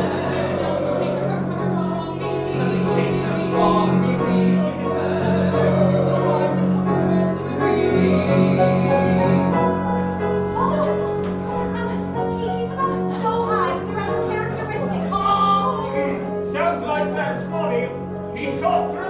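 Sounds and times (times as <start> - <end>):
instrumental accompaniment: 0.0 - 19.0
singers holding long notes: 0.0 - 19.0.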